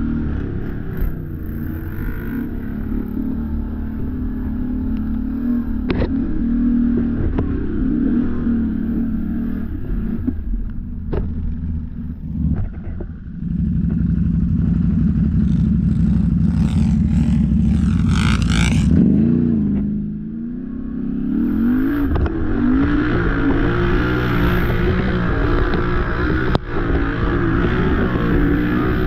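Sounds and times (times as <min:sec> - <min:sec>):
engine running under load: 0:00.0 - 0:29.0.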